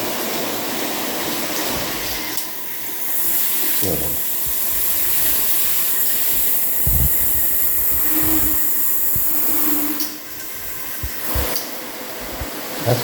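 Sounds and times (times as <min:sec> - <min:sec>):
shower head spraying water: 0:00.0 - 0:13.0.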